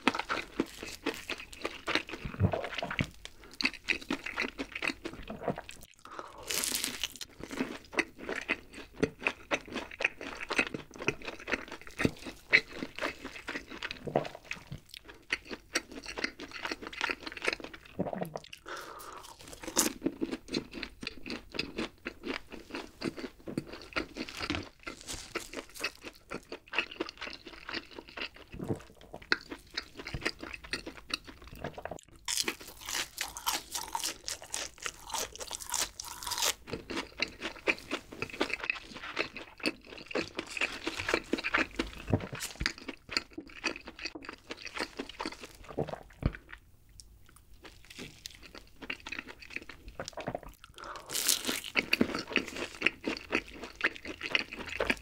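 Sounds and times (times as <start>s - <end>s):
crunchy food chewing: 0.0s - 55.0s
wet chewing: 0.0s - 55.0s.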